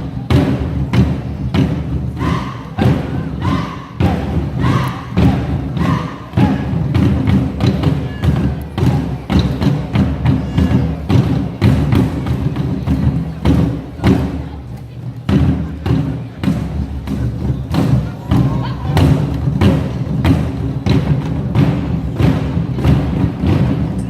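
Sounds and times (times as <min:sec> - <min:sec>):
drums beaten with sticks: 0:00.0 - 0:24.0.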